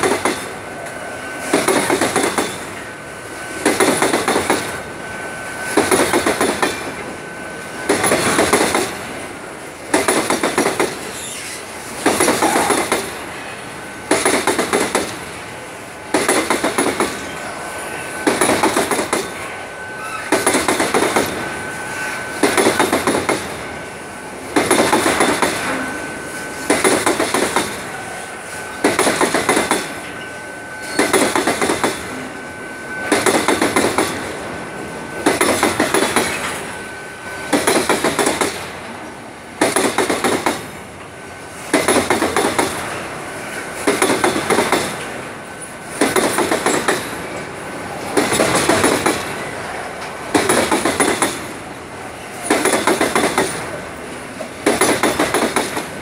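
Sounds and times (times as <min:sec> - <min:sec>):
train rolling rumble: 0:00.0 - 0:56.0
train wheels clattering over track: 0:00.0 - 0:56.0.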